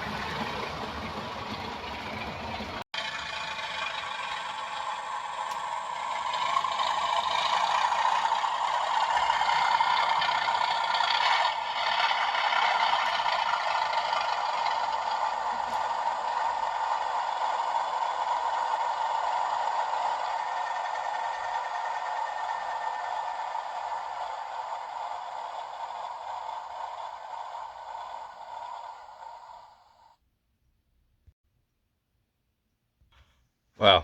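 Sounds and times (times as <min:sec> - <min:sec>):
thin simulated diesel engine: 0:00.0 - 0:30.3.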